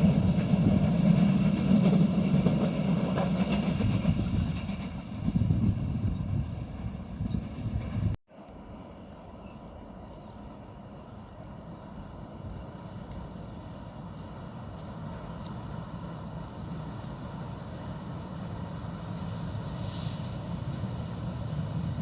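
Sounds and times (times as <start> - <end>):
distant train rumble: 0.0 - 22.0.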